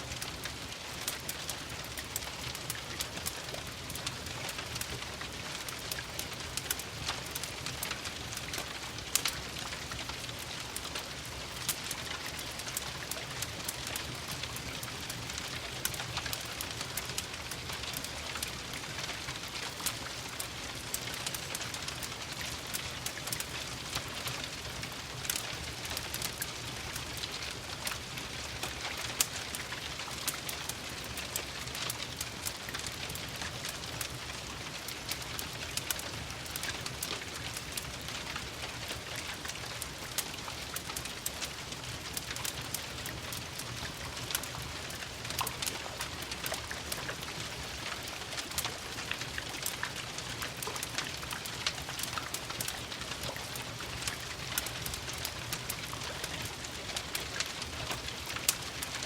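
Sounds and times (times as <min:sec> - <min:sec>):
sharp ticks of raindrops: 0:00.0 - 0:59.0
steady rain: 0:00.0 - 0:59.0
wood fire crackling: 0:00.0 - 0:59.0.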